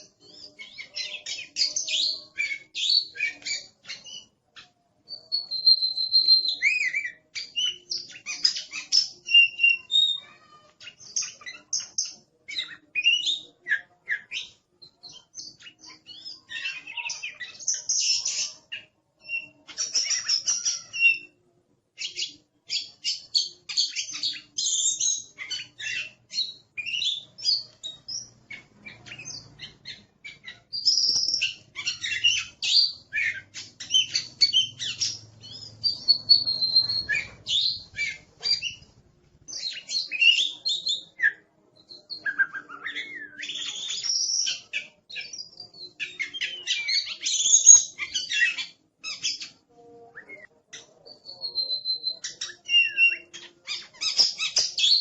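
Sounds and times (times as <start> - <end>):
bird singing chirps and whistles: 5.1 - 10.2, 10.8 - 21.4, 22.0 - 38.9, 39.5 - 55.0.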